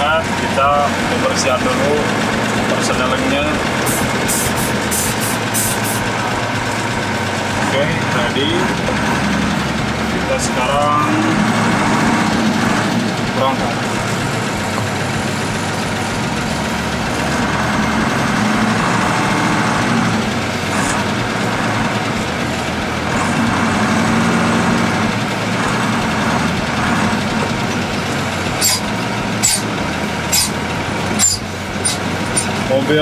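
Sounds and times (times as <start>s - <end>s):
diesel truck engine driving off: 0.0s - 33.0s.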